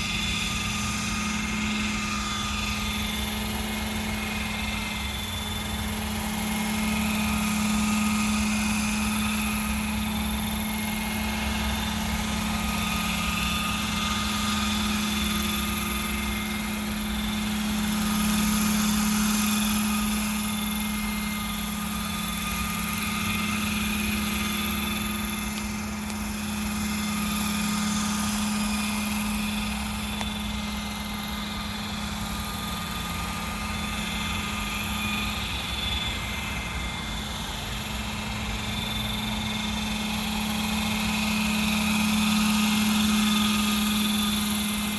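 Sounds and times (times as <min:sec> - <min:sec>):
high-pitched whines: 0:00.0 - 0:44.9
model helicopter flying: 0:00.0 - 0:44.9.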